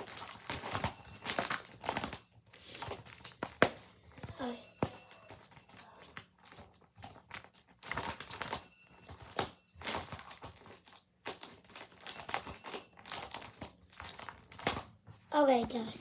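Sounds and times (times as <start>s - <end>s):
pages flipping: 0.0s - 15.1s
plastic sleeves and cards rustling: 0.0s - 16.0s.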